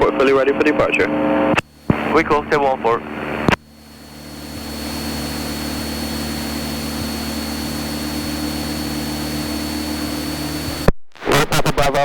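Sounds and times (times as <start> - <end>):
aircraft engine droning: 0.0 - 10.9
thin high whine: 0.5 - 10.9.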